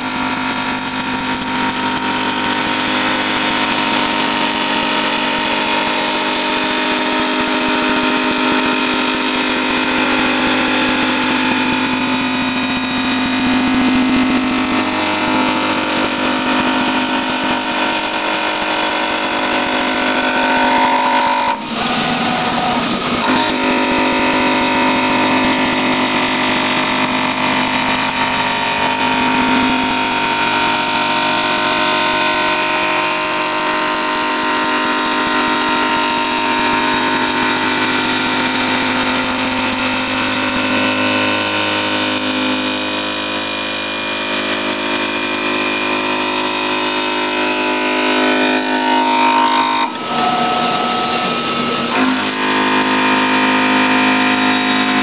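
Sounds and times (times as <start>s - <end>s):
milling machine cutting steel: 0.0s - 55.0s
spindle whine: 0.0s - 55.0s.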